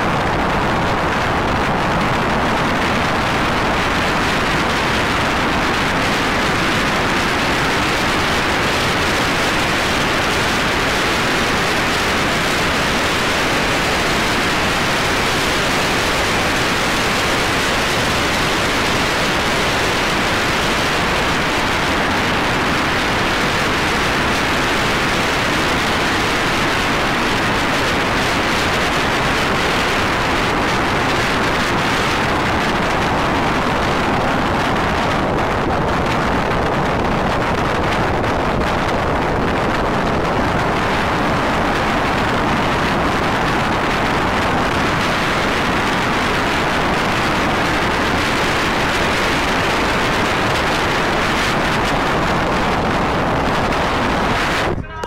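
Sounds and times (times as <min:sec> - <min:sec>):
wind and tyre noise inside car: 0:00.0 - 0:55.0.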